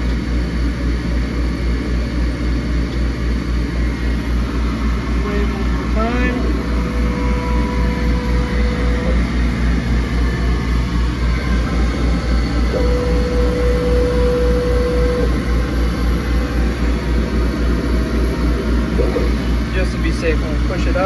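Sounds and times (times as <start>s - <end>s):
laser cutter humming: 0.0s - 21.0s
machine whine: 0.0s - 21.0s.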